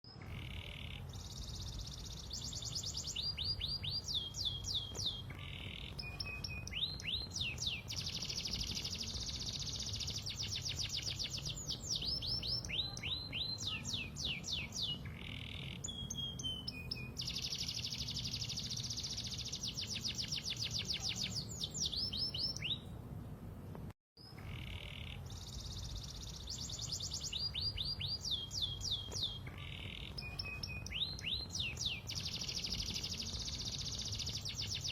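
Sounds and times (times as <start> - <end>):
canary singing trills: 0.1 - 22.9, 24.2 - 34.9.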